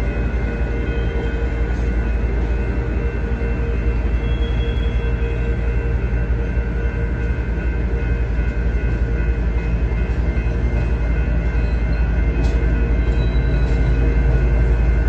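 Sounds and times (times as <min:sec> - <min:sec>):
train cars rumbling past: 0:00.0 - 0:15.0.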